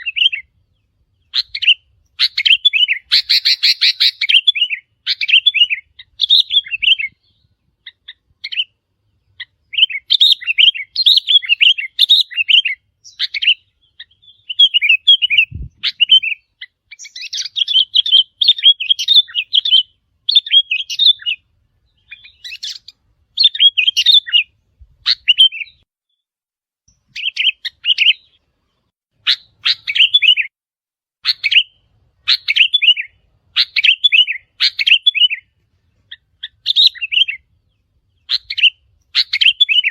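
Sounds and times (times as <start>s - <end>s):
bulbul song: 0.0s - 26.2s, 26.9s - 30.5s, 31.2s - 39.9s.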